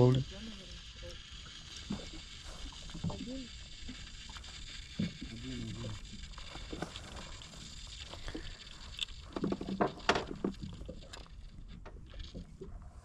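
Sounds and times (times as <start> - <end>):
small waves lapping against hull: 0.0 - 13.0.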